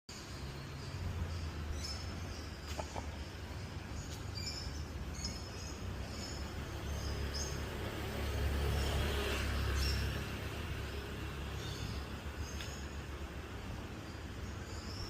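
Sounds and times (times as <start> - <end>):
motorbike traffic rumble: 0.2 - 15.0.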